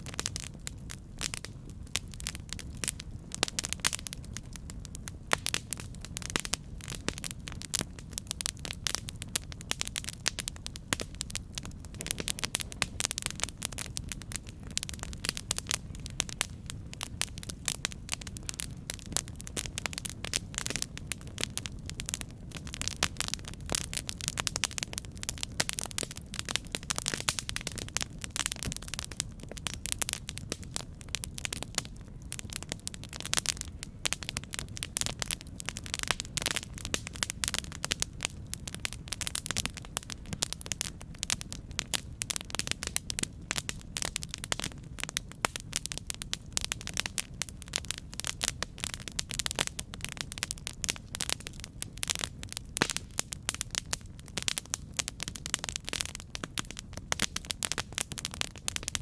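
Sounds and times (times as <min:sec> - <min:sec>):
low rumble of flames: 0:00.0 - 0:59.0
wood crackling and popping: 0:00.0 - 0:59.0.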